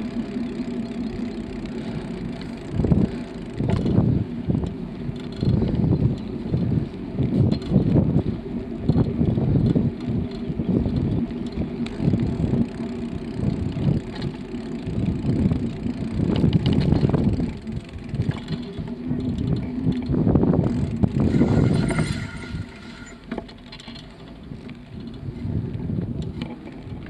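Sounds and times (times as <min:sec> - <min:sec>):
bicycle tyres rolling on path: 0:00.0 - 0:27.0
wind rushing over microphone: 0:01.4 - 0:23.4, 0:24.5 - 0:27.0.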